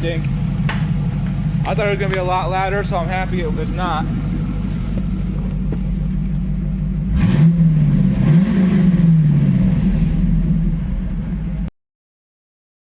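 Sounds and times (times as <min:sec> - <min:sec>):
car engine idling and revving: 0:00.0 - 0:11.7.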